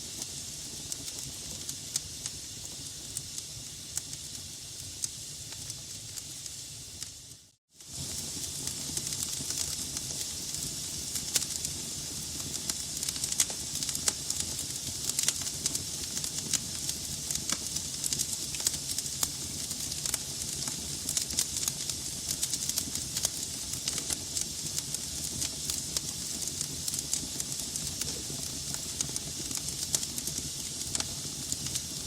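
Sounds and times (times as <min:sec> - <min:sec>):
logs crackling in fireplace: 0:00.0 - 0:32.0.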